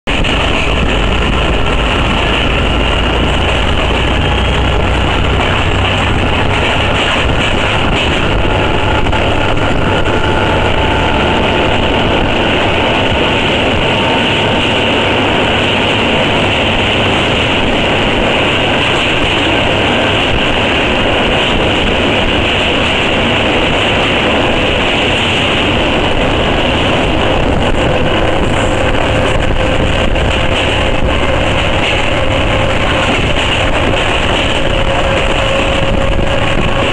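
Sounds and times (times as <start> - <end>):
rushing air: 0.0 - 36.9
train wheels rumbling on rails: 0.0 - 36.9.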